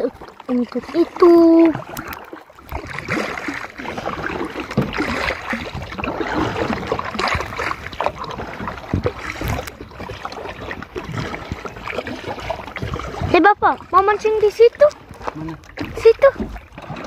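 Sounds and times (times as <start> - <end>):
paddle splashes: 0.0 - 17.0
water washing along hull: 0.0 - 17.0.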